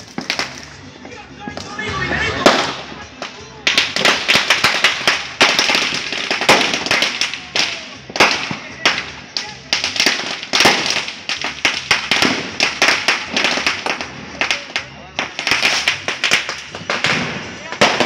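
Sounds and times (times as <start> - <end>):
firecracker bangs: 0.0 - 0.9, 1.5 - 18.0.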